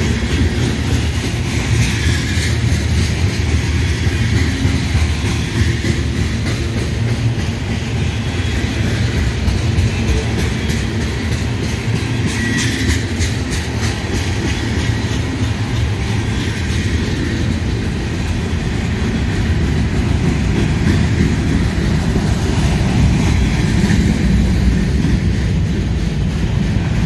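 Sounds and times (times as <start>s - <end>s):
train rumbling past: 0.0s - 27.0s
train wheels clicking over rails: 0.0s - 27.0s.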